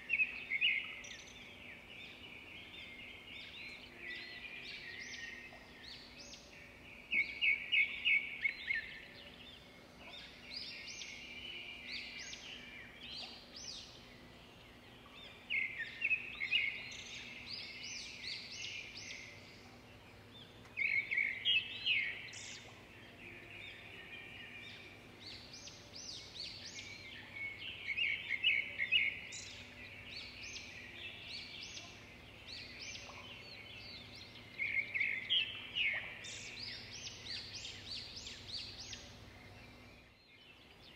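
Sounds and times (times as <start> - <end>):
faint steady hum: 0.0 - 40.9
songbird chirping: 0.0 - 40.9.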